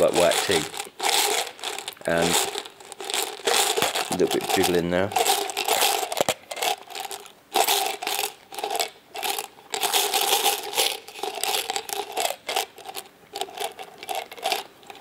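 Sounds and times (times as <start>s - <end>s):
gum rattling in plastic tub: 0.0s - 15.0s.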